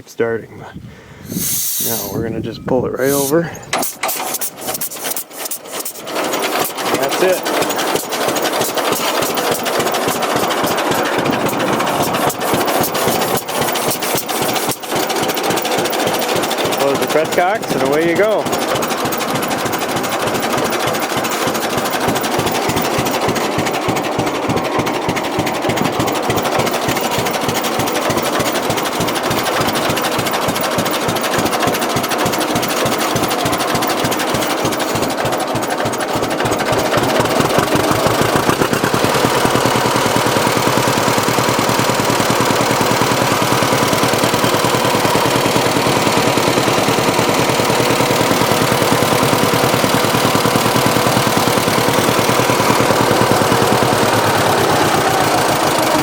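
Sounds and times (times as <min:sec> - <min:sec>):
two-cylinder tractor engine running: 0:00.0 - 0:56.0.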